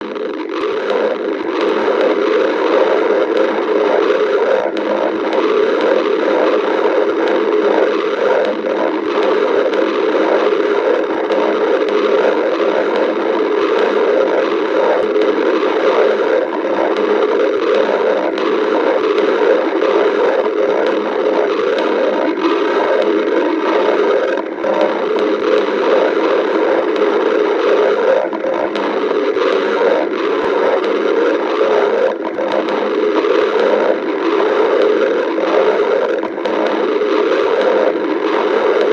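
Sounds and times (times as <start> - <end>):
stomach growling: 0.0 - 38.9.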